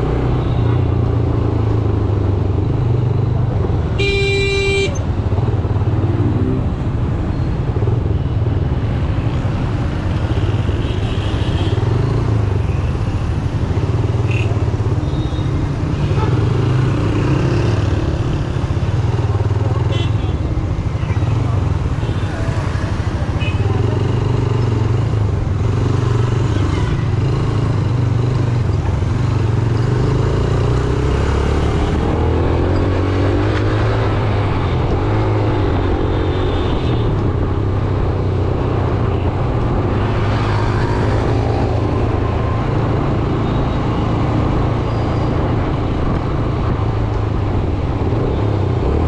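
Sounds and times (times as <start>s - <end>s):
traffic noise: 0.0s - 49.0s
wind: 0.0s - 49.0s.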